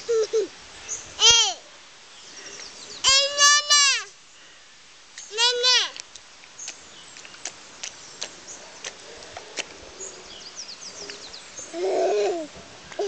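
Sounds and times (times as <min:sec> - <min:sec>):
birds chirping: 0:00.0 - 0:05.9, 0:06.5 - 0:13.0.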